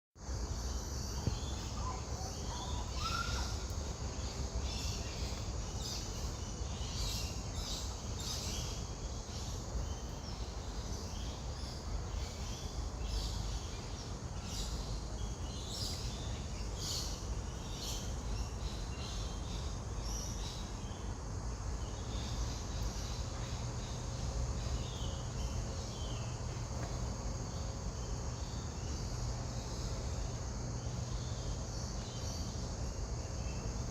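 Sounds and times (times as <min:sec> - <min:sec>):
insects chirping: 0:00.2 - 0:33.9
small birds chirping: 0:00.2 - 0:33.9.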